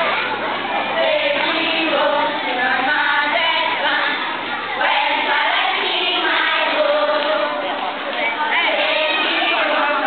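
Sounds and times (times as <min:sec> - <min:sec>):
children singing a marching song: 0:00.8 - 0:10.0.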